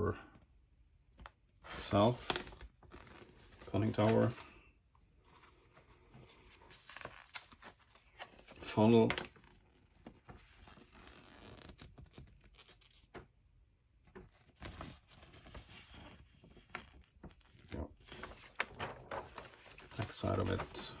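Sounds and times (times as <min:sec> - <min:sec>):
paper rustling and crinkling: 0:01.8 - 0:13.3, 0:14.0 - 0:21.0.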